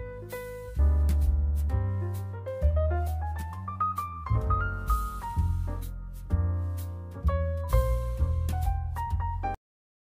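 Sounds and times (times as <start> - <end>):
piano notes: 0.0 - 9.6
regular beat: 0.0 - 9.6
sustained bass line: 0.0 - 9.6.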